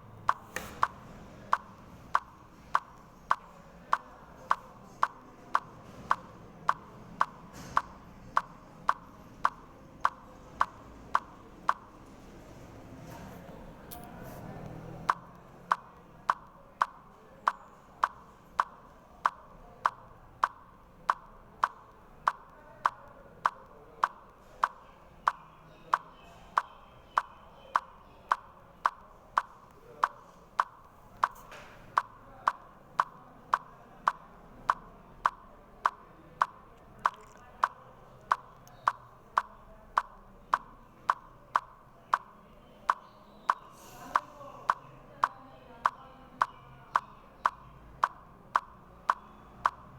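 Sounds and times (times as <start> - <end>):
sharp ticks: 0.2 - 12.0, 15.1 - 49.9.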